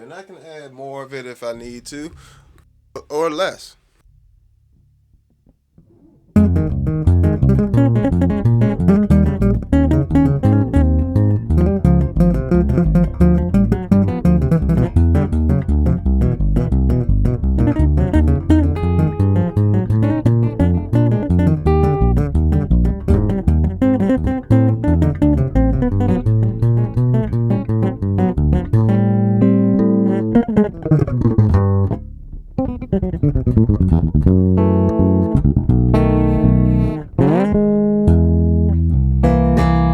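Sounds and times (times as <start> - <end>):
electric bass guitar: 4.1 - 39.9.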